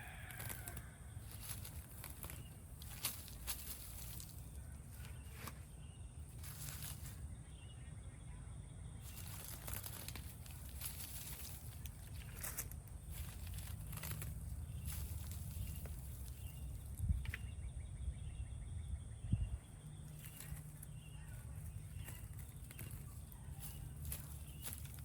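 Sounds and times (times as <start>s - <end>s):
plants rustling and crackling: 0.0s - 7.6s, 9.0s - 17.6s, 19.5s - 25.0s.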